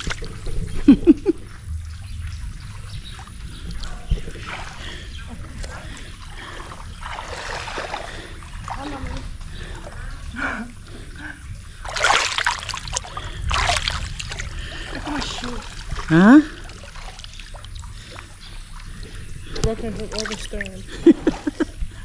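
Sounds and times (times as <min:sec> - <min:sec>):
water splashing: 0:00.0 - 0:00.7, 0:01.6 - 0:21.6.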